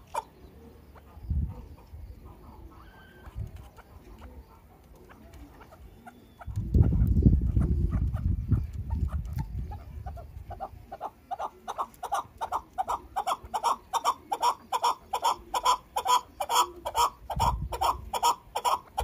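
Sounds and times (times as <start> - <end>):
partridge clucking calls: 0.0 - 19.0.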